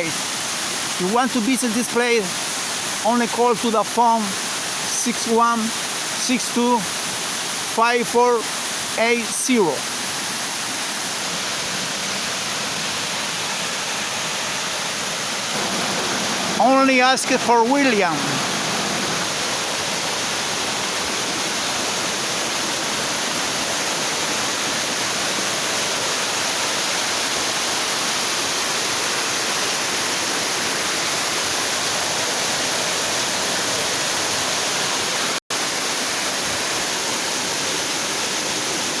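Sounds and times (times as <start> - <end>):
waterfall splashing: 0.0 - 39.0.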